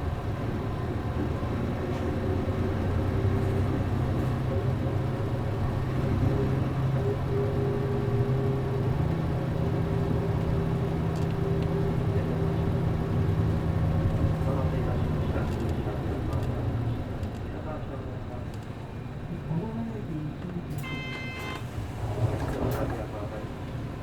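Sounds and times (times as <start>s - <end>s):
bus diesel engine hum: 0.0s - 24.0s
road noise: 0.0s - 24.0s.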